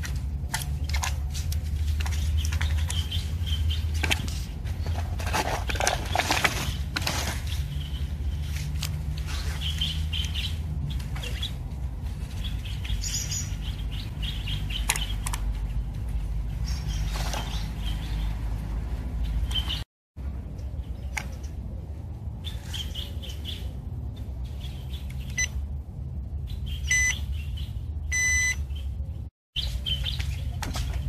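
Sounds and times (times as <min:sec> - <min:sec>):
steady low rumble: 0:00.0 - 0:29.3
birds chirping: 0:00.4 - 0:31.0.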